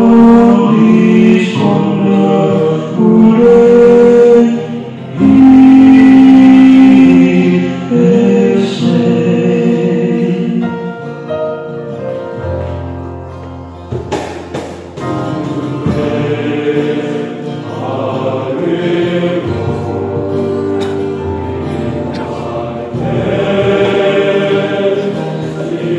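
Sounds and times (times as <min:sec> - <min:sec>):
male choir singing in harmony: 0:00.0 - 0:11.5, 0:15.0 - 0:25.9.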